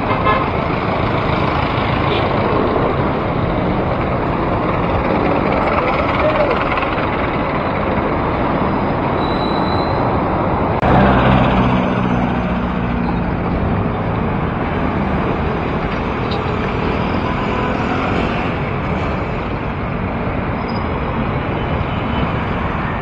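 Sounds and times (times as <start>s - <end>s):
motor vehicle engine hum: 0.0s - 9.2s, 10.0s - 23.0s
city road traffic: 0.0s - 23.0s.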